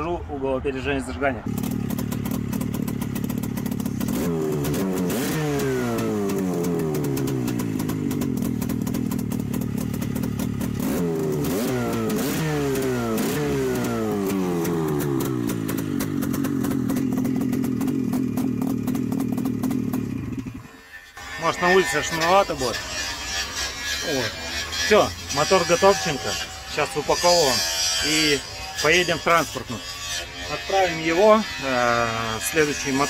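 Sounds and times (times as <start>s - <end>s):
snowmobile engine revving: 1.4s - 8.9s, 9.8s - 33.0s.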